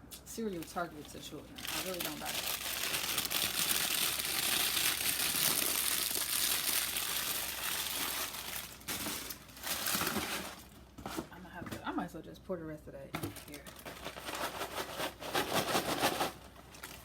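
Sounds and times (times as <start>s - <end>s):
plastic bag crinkling: 0.2s - 11.4s, 13.2s - 17.0s.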